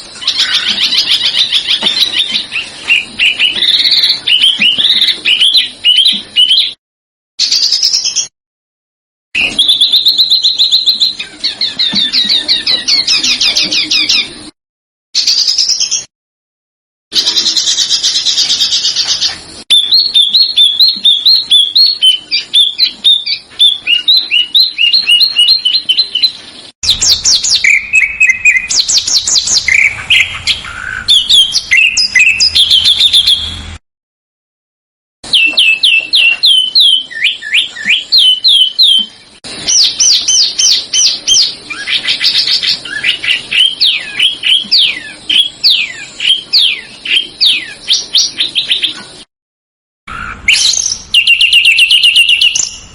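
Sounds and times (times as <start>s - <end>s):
songbirds chirping and trilling: 0.0s - 6.8s, 7.4s - 8.3s, 9.4s - 14.6s, 15.2s - 16.1s, 17.1s - 33.8s, 35.2s - 49.3s, 50.1s - 52.9s.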